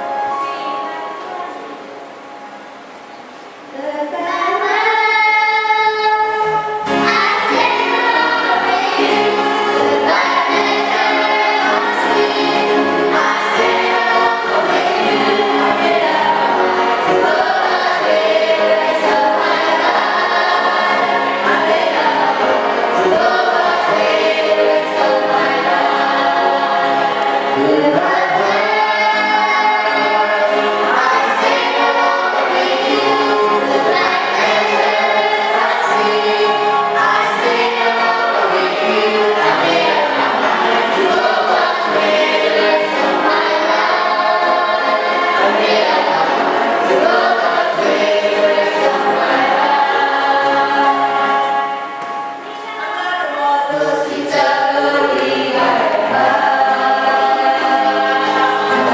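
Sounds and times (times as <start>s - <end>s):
choir singing: 0.0s - 58.9s.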